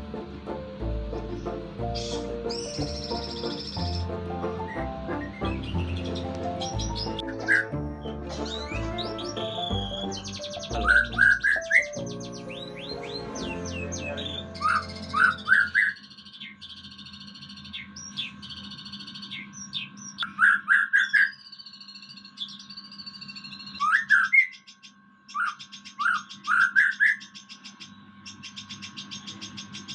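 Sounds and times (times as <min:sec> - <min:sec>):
songbird singing whistled notes: 0:01.3 - 0:29.9.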